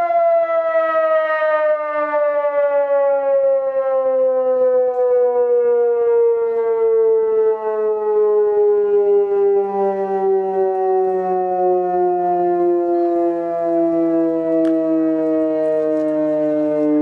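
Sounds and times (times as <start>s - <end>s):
siren wail sliding downward: 0.0s - 17.0s.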